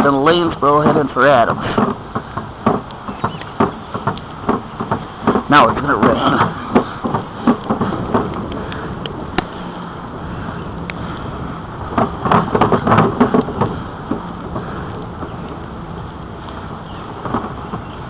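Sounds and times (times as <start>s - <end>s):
rattles and knocks: 0.0s - 9.9s, 11.8s - 18.0s
bicycle tyre noise: 0.0s - 18.0s
wind noise on microphone: 0.0s - 18.0s.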